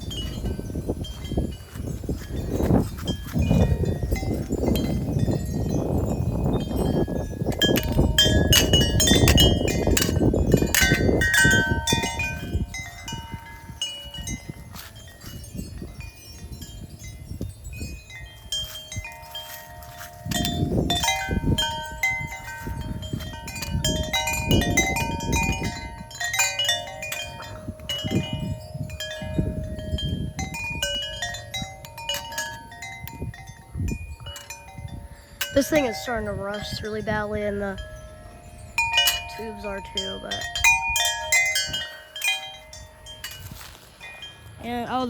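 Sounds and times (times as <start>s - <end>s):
wind buffeting microphone: 0.0s - 45.0s
wind chimes ringing: 0.0s - 45.0s.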